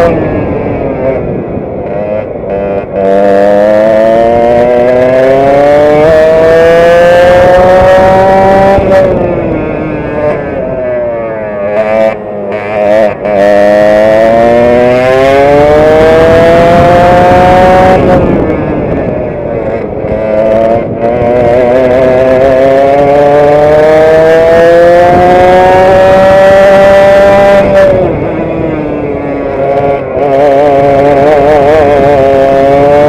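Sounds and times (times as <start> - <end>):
kart engine at full throttle: 0.0 - 33.0.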